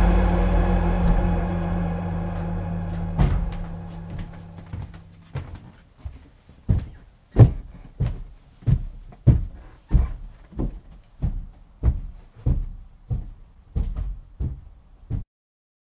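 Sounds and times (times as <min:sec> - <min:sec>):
dull thumps: 0:00.0 - 0:15.2.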